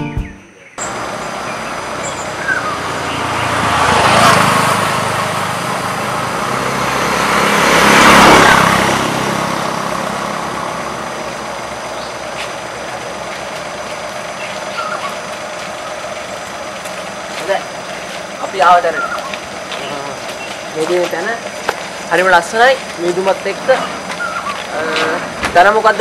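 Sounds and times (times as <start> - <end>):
traffic hum: 0.4 - 26.0
vehicles passing close by: 0.8 - 26.0.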